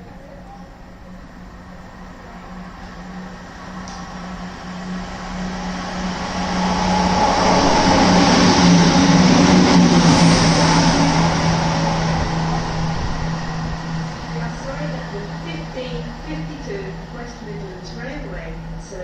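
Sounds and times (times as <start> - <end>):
steady hum dropping in pitch: 0.0 - 19.0
train passing: 0.0 - 19.0.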